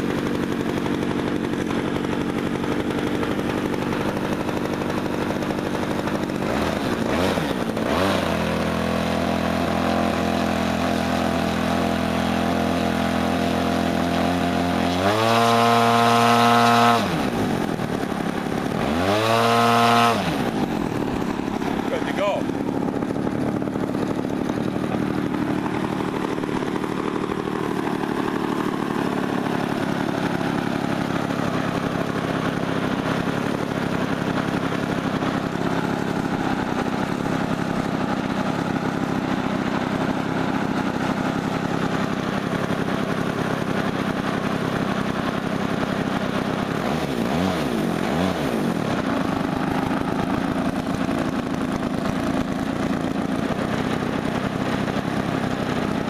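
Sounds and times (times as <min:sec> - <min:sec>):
model airplane engine idling: 0:00.0 - 0:56.0.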